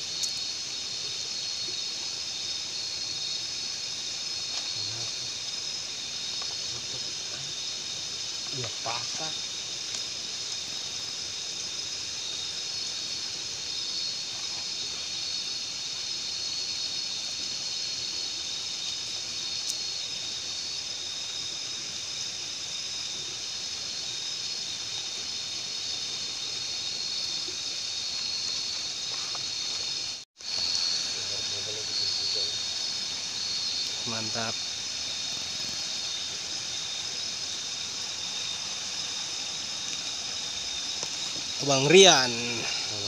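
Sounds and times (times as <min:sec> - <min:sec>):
night insects droning: 0:00.0 - 0:43.0.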